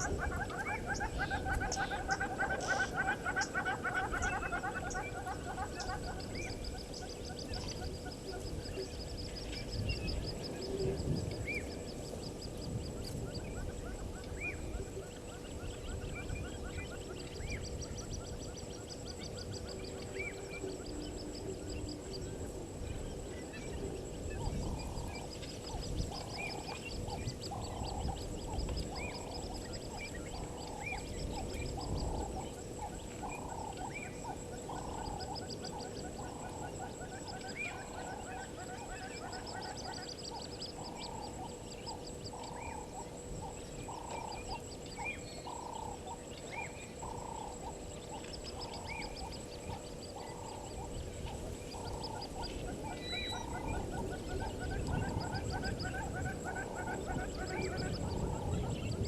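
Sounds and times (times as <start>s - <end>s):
bird chirps: 0.0s - 59.0s
low pulsed animal calls: 0.0s - 59.0s.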